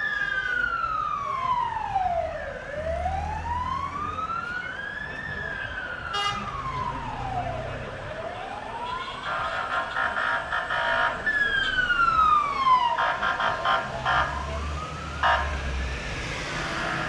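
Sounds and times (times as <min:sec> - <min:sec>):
ambulance siren wailing: 0:00.0 - 0:17.0
vehicle engines rumbling: 0:00.0 - 0:17.0.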